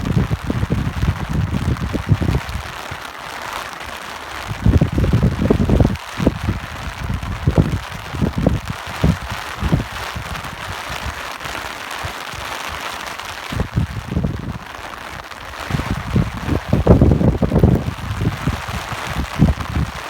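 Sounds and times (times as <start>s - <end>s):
wind buffeting microphone: 0.0s - 3.0s, 4.4s - 20.0s
steady rain hissing: 0.0s - 20.0s.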